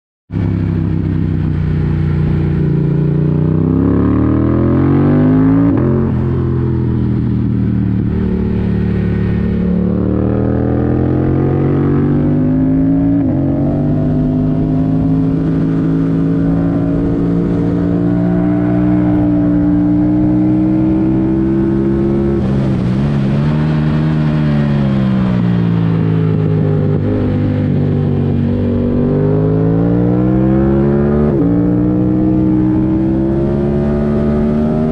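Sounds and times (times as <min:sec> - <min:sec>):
motorcycle engine accelerating: 0:00.3 - 0:34.9.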